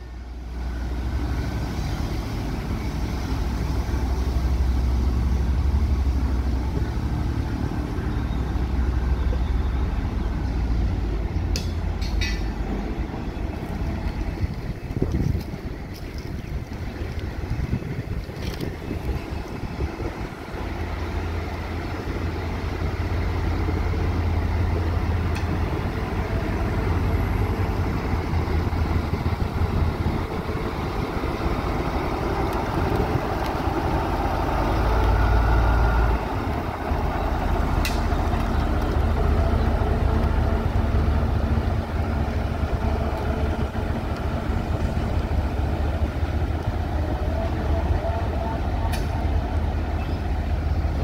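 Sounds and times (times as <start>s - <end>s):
diesel locomotive engine drone: 0.0s - 51.0s.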